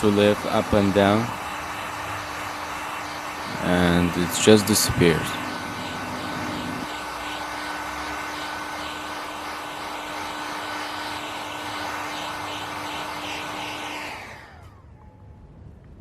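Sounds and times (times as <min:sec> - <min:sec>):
heat gun blowing and whining: 0:00.0 - 0:15.3
fan winding down: 0:00.0 - 0:15.6.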